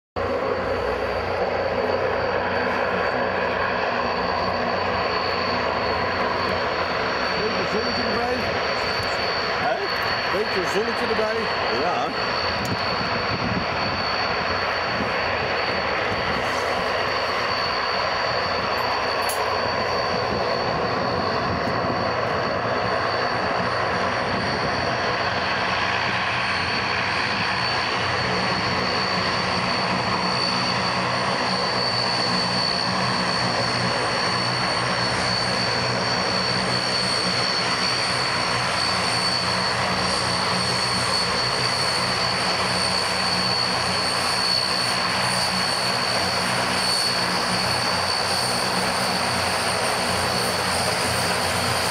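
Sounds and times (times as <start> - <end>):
turboprop engines running: 0.2 - 51.9.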